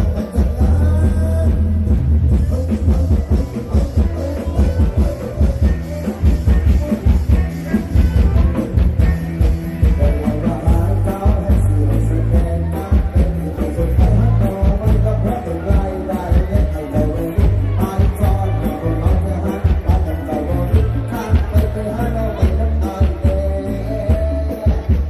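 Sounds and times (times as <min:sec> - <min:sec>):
driving drum kit: 0:00.0 - 0:25.0
rock band playing live: 0:00.0 - 0:25.0.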